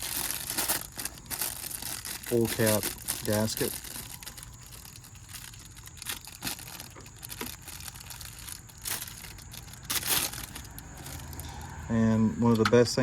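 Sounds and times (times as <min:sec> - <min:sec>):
plastic packaging crinkling and tearing: 0:00.0 - 0:11.8.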